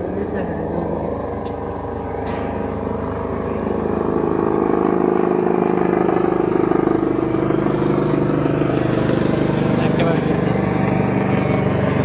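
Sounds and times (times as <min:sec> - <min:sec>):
engine low pulsing hum: 0:00.0 - 0:12.0.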